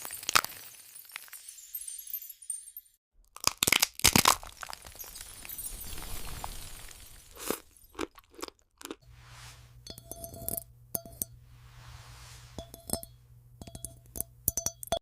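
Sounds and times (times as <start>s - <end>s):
glass crunching and clinking: 0.0s - 9.0s, 9.8s - 11.4s, 12.6s - 15.0s.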